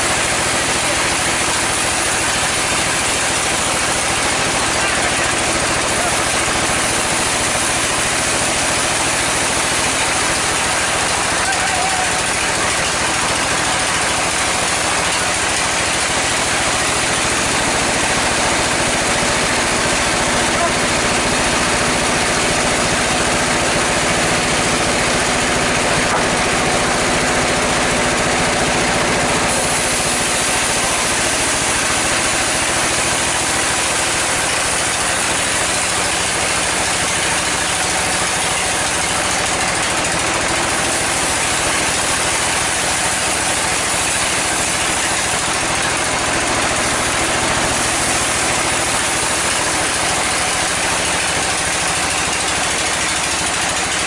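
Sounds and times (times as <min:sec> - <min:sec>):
low machine hum: 0:00.0 - 0:53.5
band saw running: 0:00.0 - 0:54.0.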